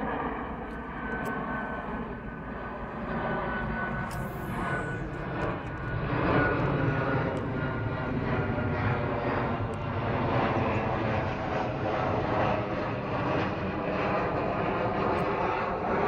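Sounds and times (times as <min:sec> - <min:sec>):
jet airliner flying overhead: 0:00.0 - 0:16.0.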